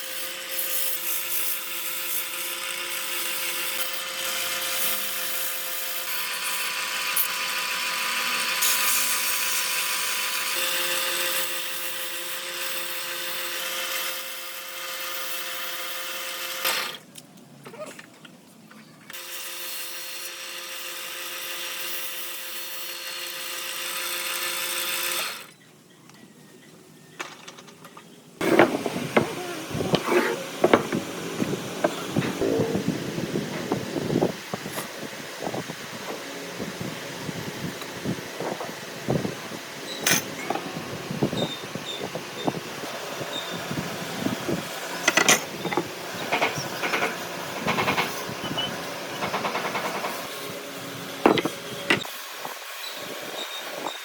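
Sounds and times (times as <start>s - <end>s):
power tool whining: 0.0s - 17.0s, 19.1s - 25.6s, 28.4s - 54.0s.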